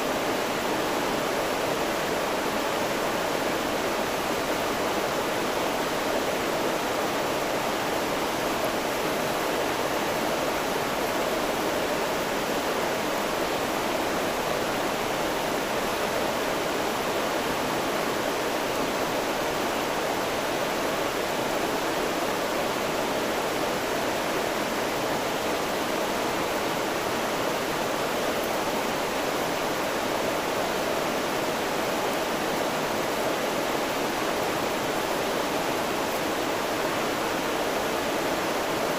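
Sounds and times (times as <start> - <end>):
river rushing: 0.0 - 38.9.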